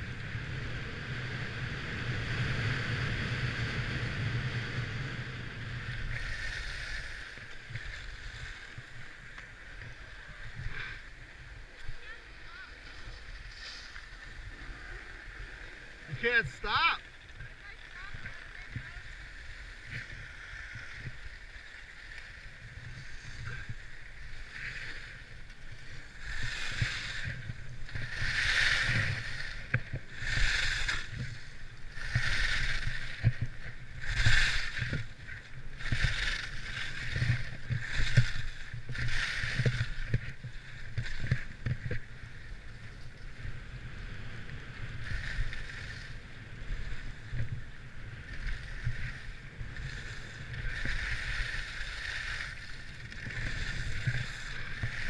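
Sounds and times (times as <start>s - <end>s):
wind rumble on microphone: 0.0s - 16.6s, 17.2s - 55.0s
skis scraping across snow: 0.0s - 55.0s.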